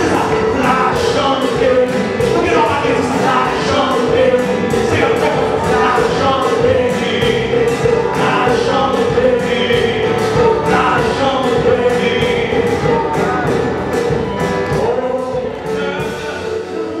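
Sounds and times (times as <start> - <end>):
band with steady beat: 0.0 - 16.9
group of voices singing: 0.0 - 17.0.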